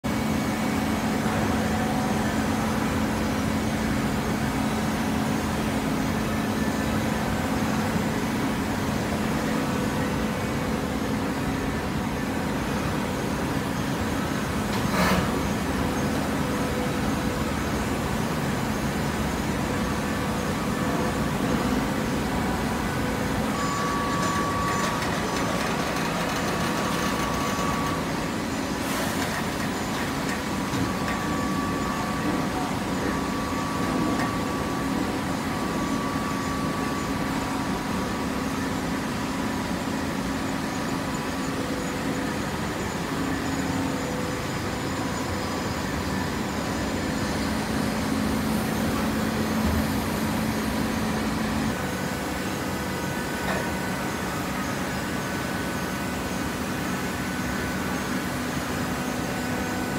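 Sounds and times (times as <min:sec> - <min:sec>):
baler motor and pump hum: 0:00.0 - 0:59.9.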